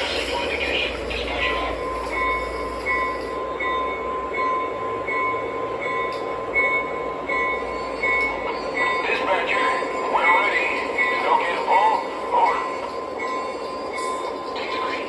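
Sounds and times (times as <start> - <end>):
model trains rolling rumble: 0.0 - 15.0.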